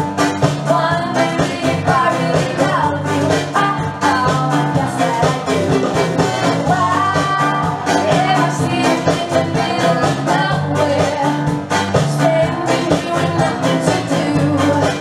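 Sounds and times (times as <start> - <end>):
upbeat pop song with singing: 0.0 - 15.0.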